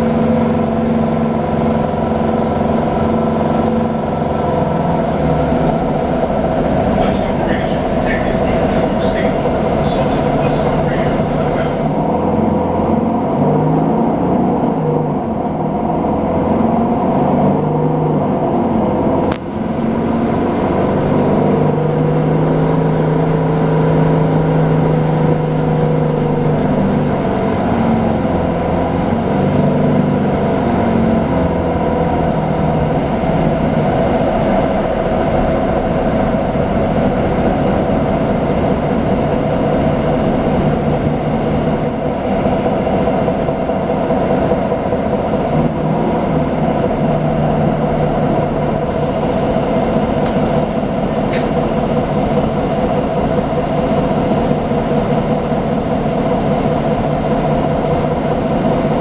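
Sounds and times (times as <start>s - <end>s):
bus engine droning: 0.0s - 59.0s.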